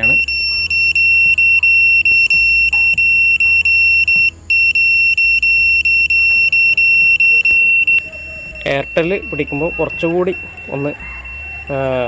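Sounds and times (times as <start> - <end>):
high-pitched electronic beeping: 0.0 - 12.0.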